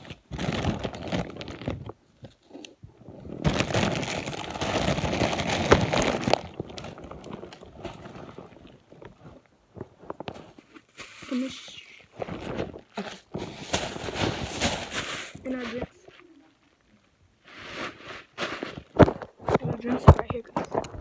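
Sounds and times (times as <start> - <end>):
chip bag crinkling: 0.0 - 9.4, 10.0 - 16.4, 17.4 - 19.4.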